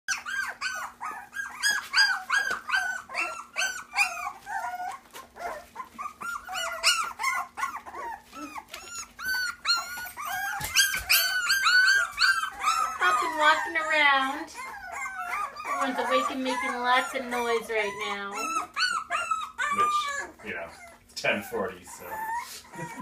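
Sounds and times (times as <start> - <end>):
puppies whining and yipping: 0.1 - 23.0.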